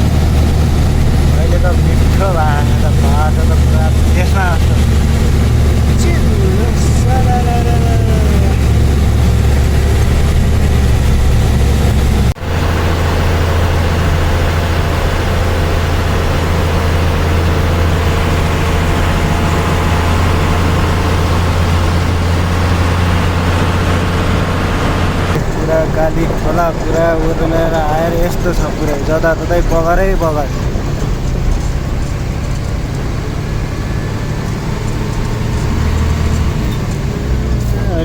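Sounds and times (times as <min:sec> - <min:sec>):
truck engine droning: 0:00.0 - 0:38.0.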